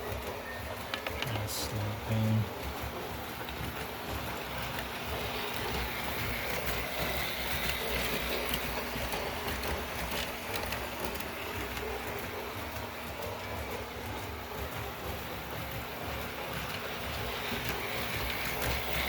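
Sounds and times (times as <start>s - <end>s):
toy train motor hum: 0.0s - 19.0s
toy train wheels clicking: 0.0s - 19.0s.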